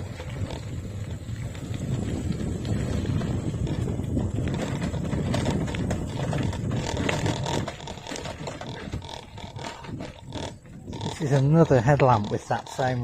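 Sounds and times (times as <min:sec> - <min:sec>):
bicycle headlamp rattling: 0:00.0 - 0:13.0
wind rumbling on microphone: 0:00.0 - 0:13.0.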